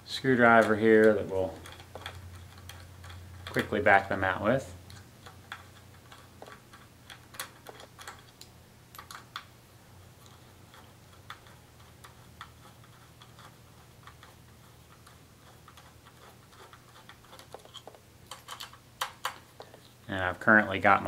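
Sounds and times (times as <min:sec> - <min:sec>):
screwdriver and screws clicking on metal: 0:00.3 - 0:09.5, 0:10.2 - 0:19.8.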